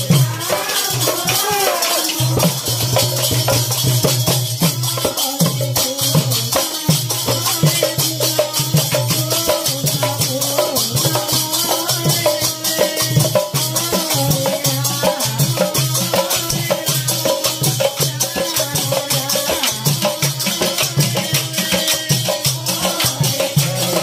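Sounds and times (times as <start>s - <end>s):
barrel drums beaten fast: 0.0s - 24.0s
hand cymbals clashing: 0.0s - 24.0s.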